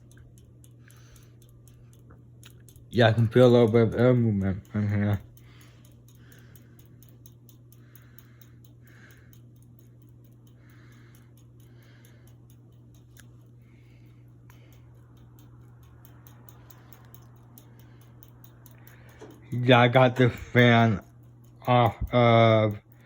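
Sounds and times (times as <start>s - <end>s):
ceiling fan motor hum: 0.0s - 23.0s
fast regular ticking: 0.0s - 23.0s.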